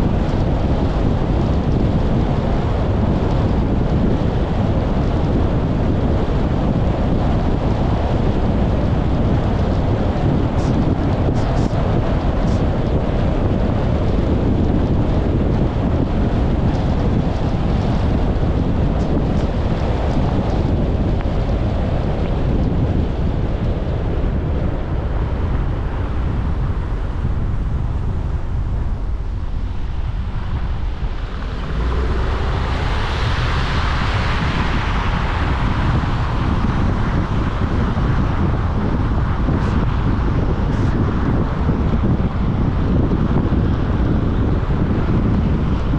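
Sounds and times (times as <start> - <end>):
road and tyre rumble: 0.0 - 45.9
wind noise on microphone: 0.0 - 45.9.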